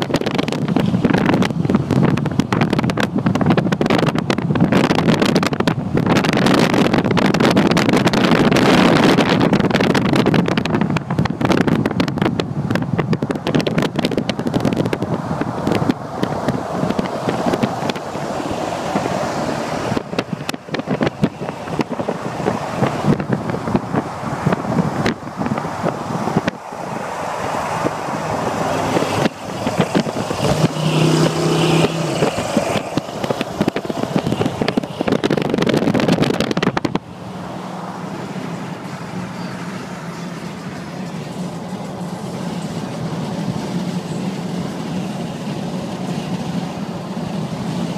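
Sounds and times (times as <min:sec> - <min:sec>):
car engine: 0:00.0 - 0:47.9
highway traffic noise: 0:00.0 - 0:47.9
in-cabin road drone: 0:00.0 - 0:47.9
wind buffeting: 0:00.0 - 0:47.9.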